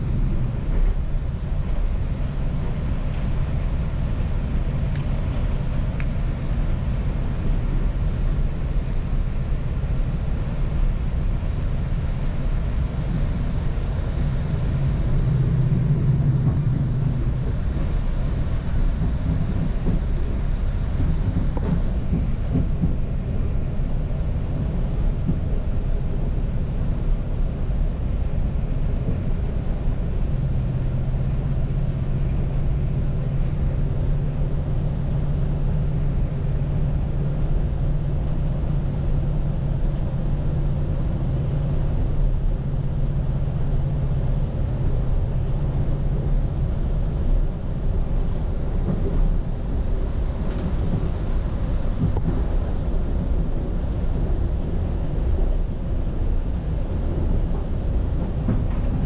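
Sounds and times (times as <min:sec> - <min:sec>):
train low rumble: 0:00.0 - 0:59.0.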